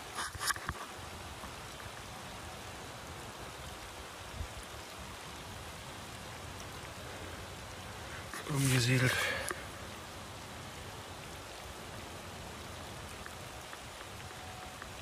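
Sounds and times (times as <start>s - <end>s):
light drizzle: 0.0s - 15.0s
wind: 0.0s - 15.0s.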